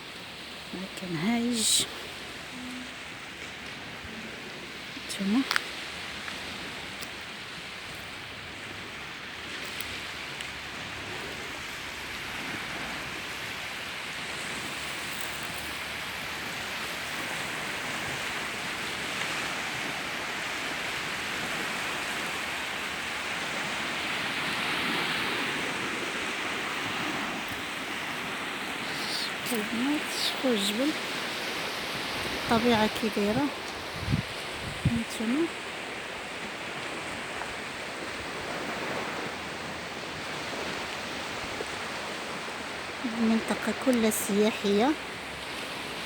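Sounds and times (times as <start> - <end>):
sea waves washing ashore: 0.0 - 46.0.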